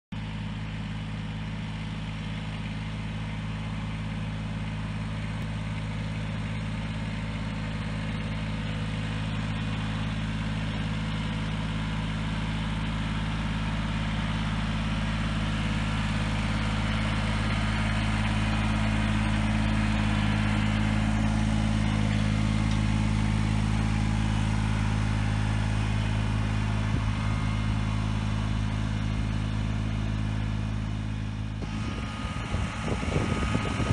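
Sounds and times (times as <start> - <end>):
tractor diesel engine running: 0.2 - 33.9.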